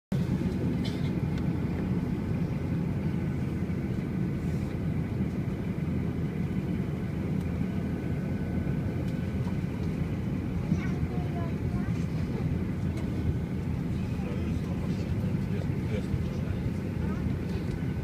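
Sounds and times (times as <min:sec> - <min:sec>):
low engine rumble: 0:00.1 - 0:18.0.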